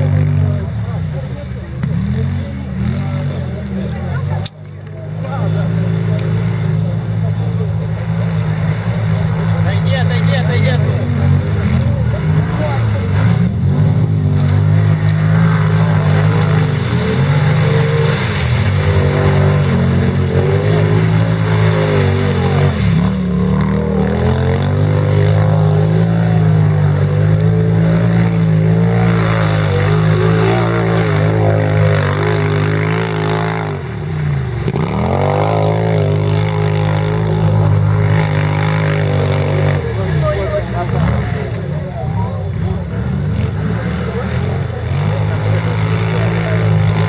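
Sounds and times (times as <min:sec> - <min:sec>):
quad bike engines revving: 0:00.0 - 0:47.0.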